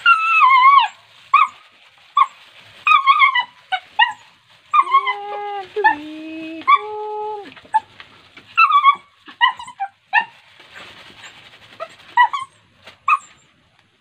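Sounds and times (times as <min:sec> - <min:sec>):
dog whining: 0:00.0 - 0:01.6, 0:02.2 - 0:07.9, 0:08.6 - 0:10.4, 0:11.2 - 0:13.6
dog yelping and whimpering: 0:00.0 - 0:10.4, 0:11.2 - 0:13.6.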